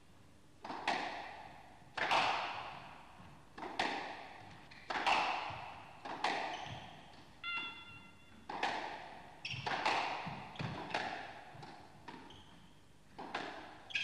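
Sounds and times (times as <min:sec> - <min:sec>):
ball hitting court walls: 0:00.6 - 0:07.7, 0:08.3 - 0:12.6, 0:13.2 - 0:14.0
squash ball struck by racquets: 0:00.6 - 0:07.8, 0:08.4 - 0:12.3, 0:13.2 - 0:14.0.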